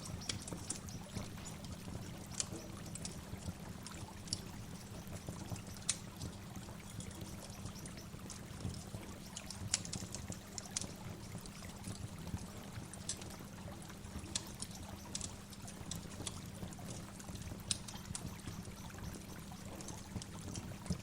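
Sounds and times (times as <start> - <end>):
water splashes and drips: 0.0 - 21.0.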